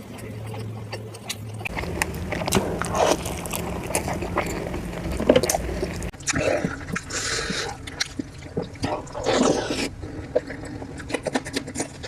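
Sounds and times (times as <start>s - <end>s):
low background hum: 0.0s - 12.0s
person chewing food: 0.0s - 12.0s.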